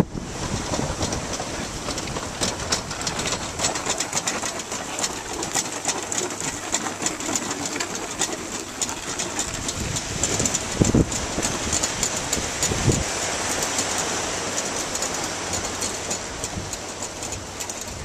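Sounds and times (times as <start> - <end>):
sea water lapping: 0.0 - 18.0
small crackling clicks: 0.5 - 18.0.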